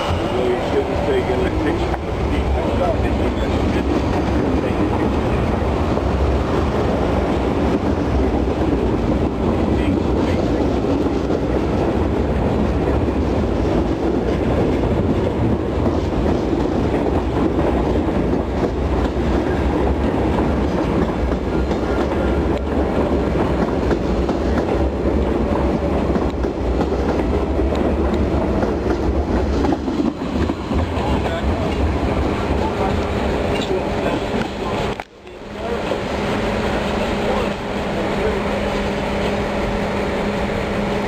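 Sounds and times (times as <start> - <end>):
subway train running on track: 0.0 - 41.0.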